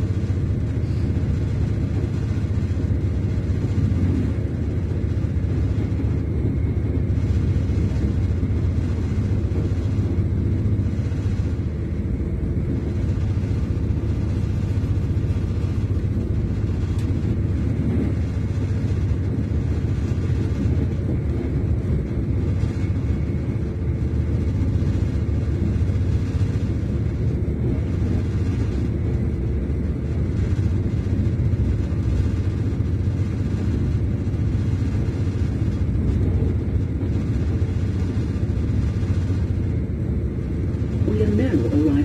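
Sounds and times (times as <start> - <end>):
train rumbling at speed: 0.0 - 42.0.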